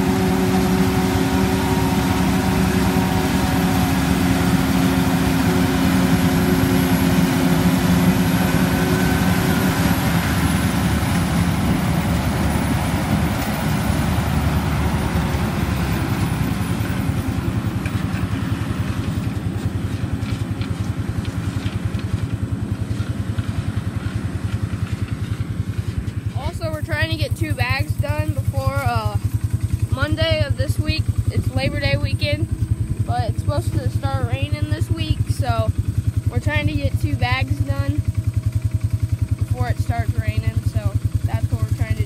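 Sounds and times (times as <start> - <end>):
farm machinery engine running: 0.0 - 42.0.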